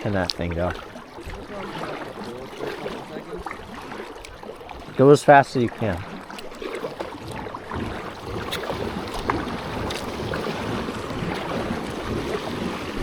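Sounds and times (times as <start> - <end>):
water rushing along boat hull: 0.0 - 13.0.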